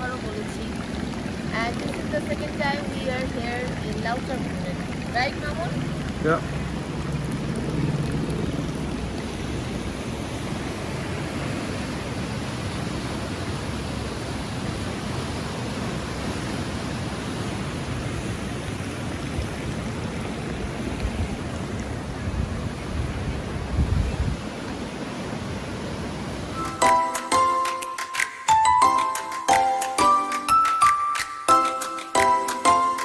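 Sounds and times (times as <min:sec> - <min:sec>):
rushing mountain water: 0:00.0 - 0:33.0.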